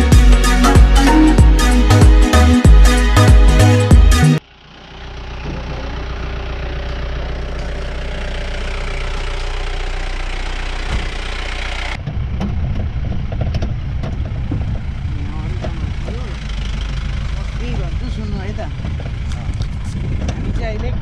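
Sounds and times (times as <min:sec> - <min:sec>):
jeep engine running: 0:00.0 - 0:21.0.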